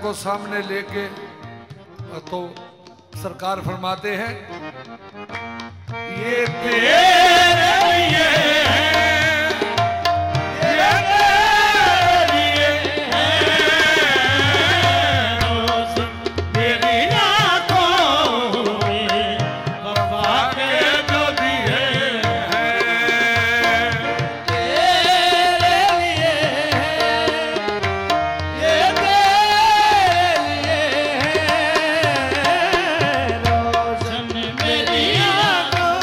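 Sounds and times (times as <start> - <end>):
tabla rhythm: 0.0 - 36.0.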